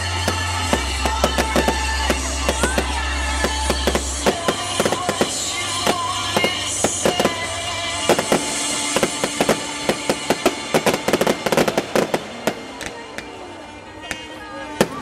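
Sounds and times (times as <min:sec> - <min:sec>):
fireworks popping and banging: 0:00.1 - 0:13.4.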